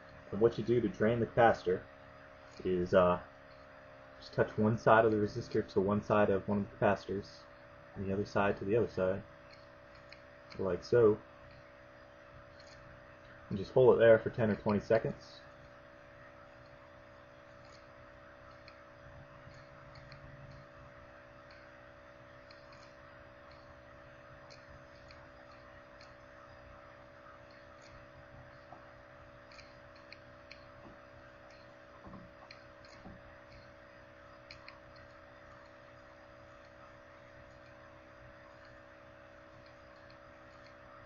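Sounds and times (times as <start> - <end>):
steady low hum: 0.0 - 41.0
faint irregular ticks: 2.4 - 41.0.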